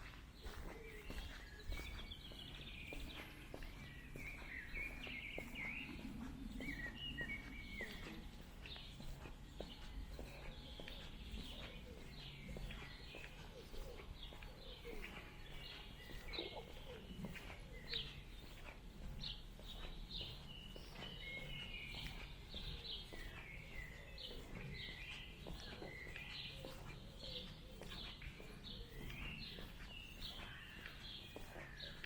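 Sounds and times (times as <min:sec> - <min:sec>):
faint footsteps: 0:00.0 - 0:32.0
outdoor background noise: 0:00.0 - 0:32.0
songbirds chirping and singing: 0:00.0 - 0:32.0.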